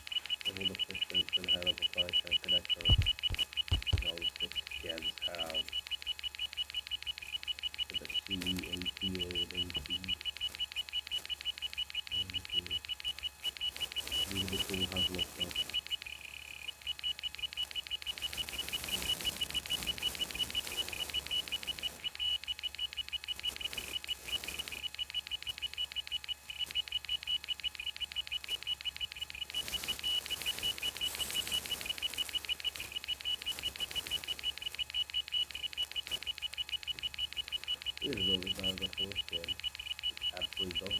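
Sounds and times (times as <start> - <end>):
hard drive chirping ticks: 0.0 - 40.9.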